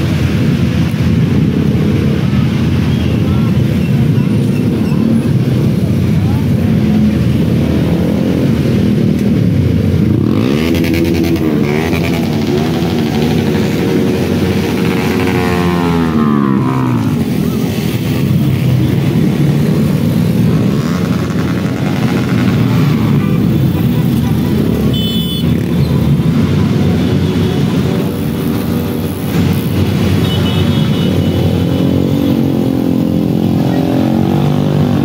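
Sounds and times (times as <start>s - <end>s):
motorcycle engines passing: 0.0s - 35.0s
motorcycle engines revving: 0.0s - 35.0s.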